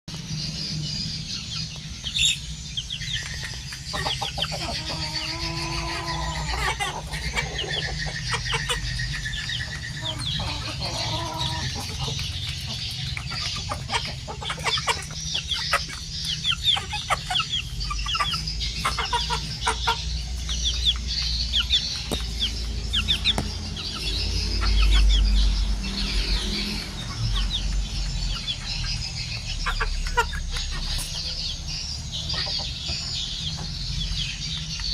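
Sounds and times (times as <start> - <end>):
chickens calling: 0.1 - 34.9
chickens clucking: 1.2 - 34.9.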